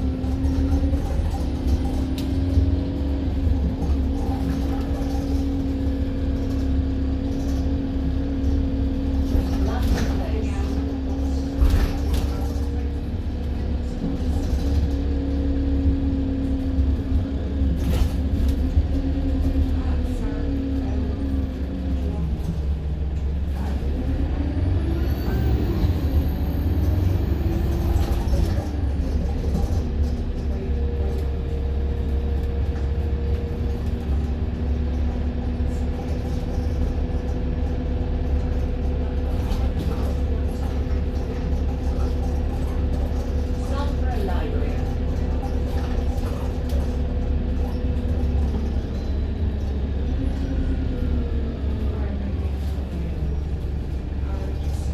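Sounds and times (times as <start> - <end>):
bus diesel engine drone: 0.0 - 54.9.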